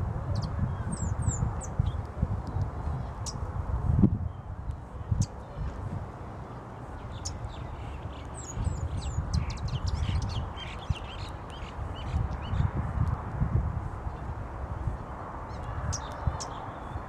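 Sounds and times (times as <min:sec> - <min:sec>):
steady low rumble: 0:00.0 - 0:17.0
birds chirping: 0:00.3 - 0:03.4, 0:04.2 - 0:12.8, 0:14.0 - 0:17.0.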